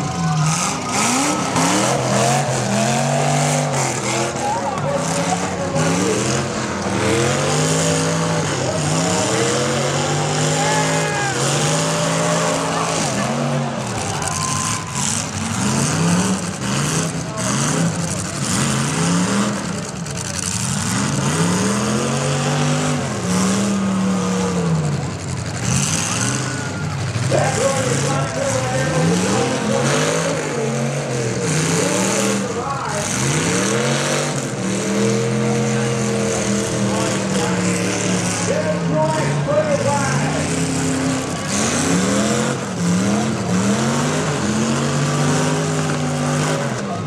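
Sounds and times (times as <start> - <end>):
car engines revving: 0.0 - 47.0.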